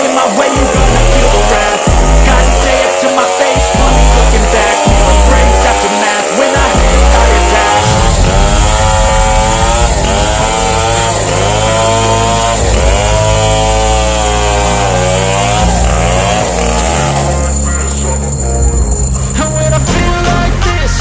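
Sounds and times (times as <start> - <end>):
chainsaw cutting log: 0.0 - 20.0.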